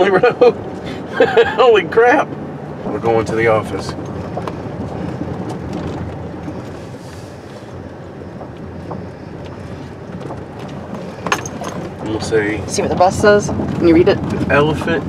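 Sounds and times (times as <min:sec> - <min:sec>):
gravel crunching: 0:00.0 - 0:15.0.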